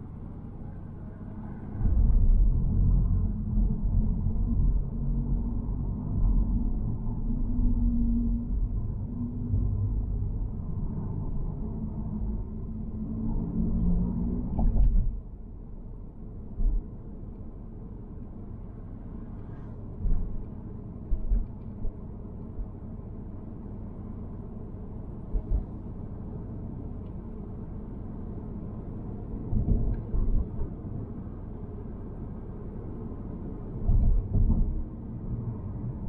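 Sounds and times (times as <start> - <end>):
car driving rumble: 0.0 - 36.0.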